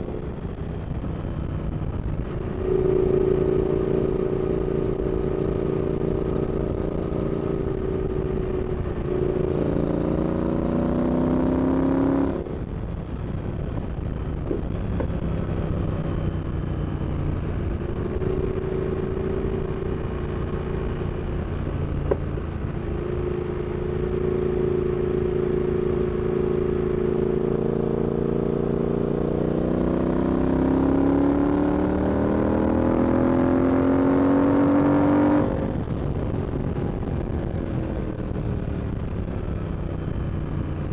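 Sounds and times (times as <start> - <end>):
motorcycle engine revving: 0.0 - 13.4, 14.1 - 40.9.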